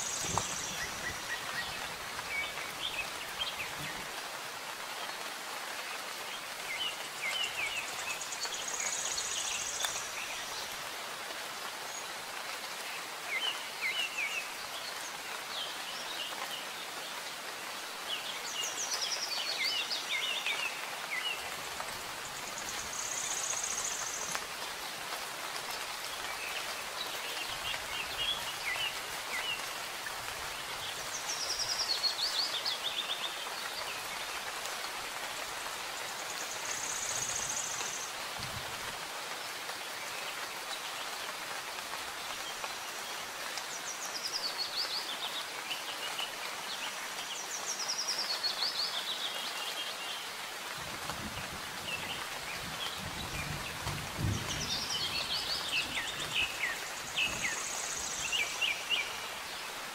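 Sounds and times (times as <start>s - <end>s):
songbirds chirping: 0.0s - 59.9s
steady rain falling: 0.0s - 59.9s.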